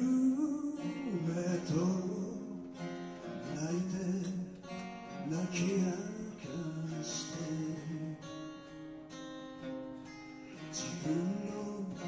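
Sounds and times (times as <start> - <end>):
man singing a slow ballad: 0.0 - 8.6, 10.6 - 12.0
acoustic guitar strumming: 0.0 - 12.0.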